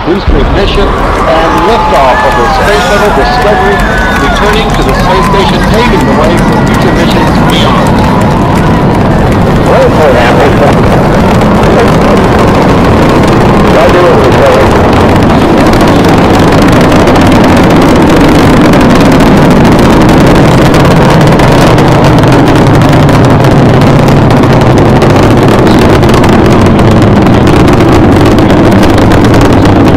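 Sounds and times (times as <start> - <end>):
rocket engines rumbling: 0.0 - 29.9.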